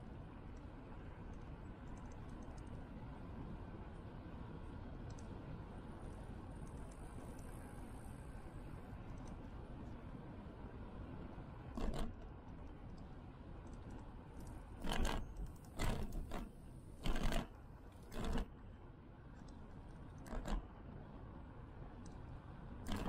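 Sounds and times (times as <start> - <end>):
low rumble of tyres and air: 0.0 - 23.0.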